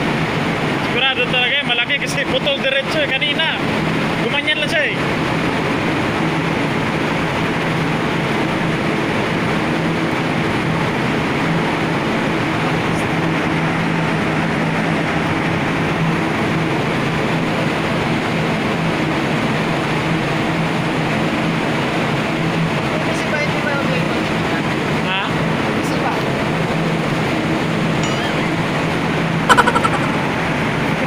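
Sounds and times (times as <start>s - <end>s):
ship machinery running: 0.0s - 31.0s.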